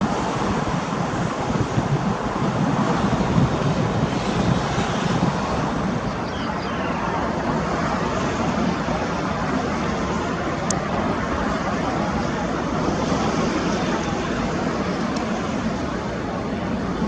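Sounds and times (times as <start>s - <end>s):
jet engine rumble: 0.0s - 17.0s
wind noise on microphone: 0.0s - 17.0s.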